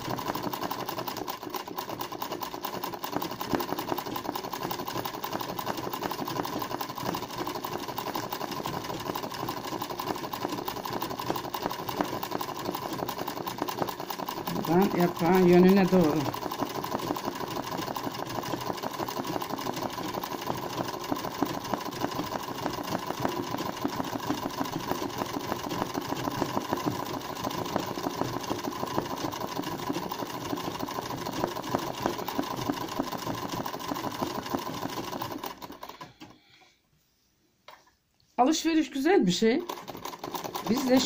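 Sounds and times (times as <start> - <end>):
sewing machine stitching: 0.0 - 36.5, 39.2 - 41.0.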